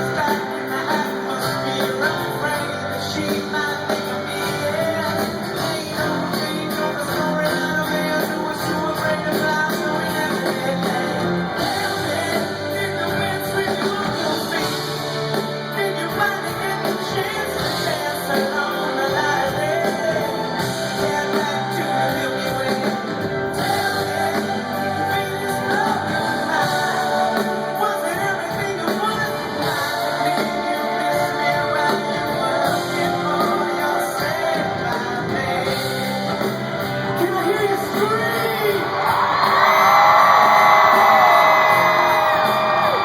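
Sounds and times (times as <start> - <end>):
electric guitar: 0.0 - 43.0
lead vocal singing: 0.0 - 43.0
live rock band playing: 0.0 - 43.0.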